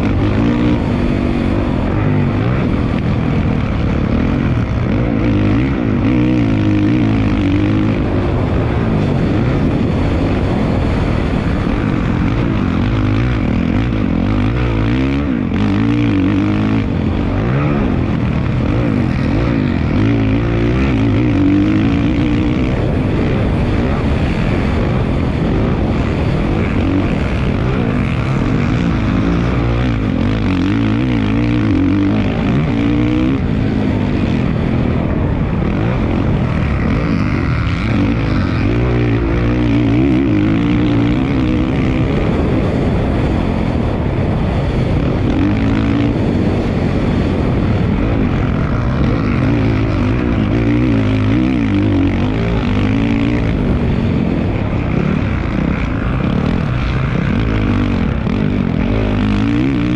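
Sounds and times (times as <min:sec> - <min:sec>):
dirt bike engine revving: 0:00.0 - 0:59.9
steady rush of noise: 0:00.0 - 0:59.9.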